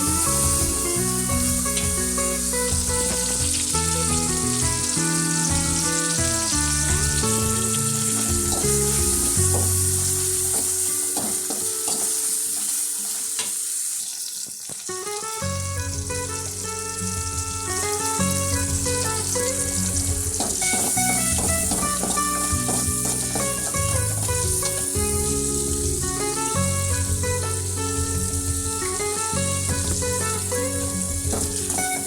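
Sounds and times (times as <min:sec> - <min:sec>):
background music: 0:00.0 - 0:13.9, 0:14.9 - 0:32.0
food sizzling in oil: 0:00.0 - 0:32.0.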